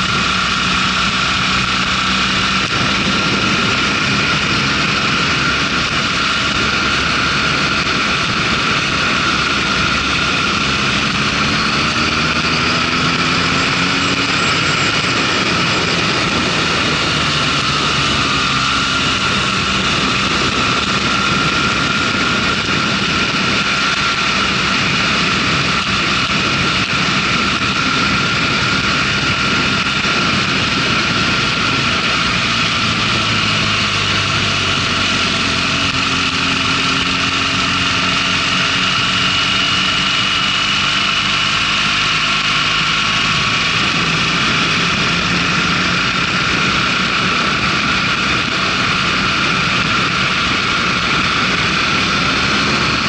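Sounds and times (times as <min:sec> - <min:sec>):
motorcycle engine running: 0:00.0 - 0:53.0
wind rush: 0:00.0 - 0:53.0.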